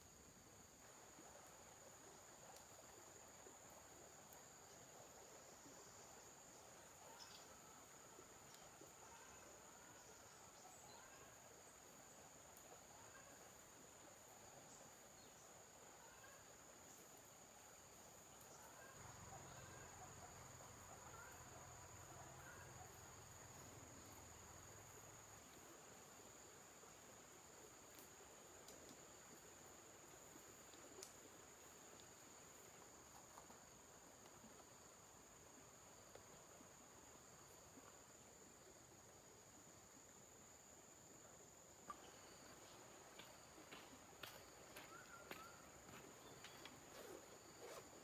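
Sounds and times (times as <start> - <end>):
faint insect chirps: 0.0 - 48.0.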